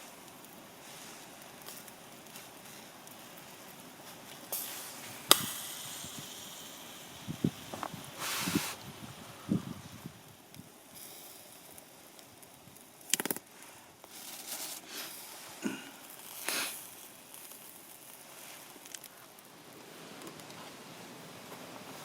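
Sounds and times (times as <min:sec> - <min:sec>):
campfire hissing: 0:00.0 - 0:22.0
fire popping and crackling: 0:00.0 - 0:22.0.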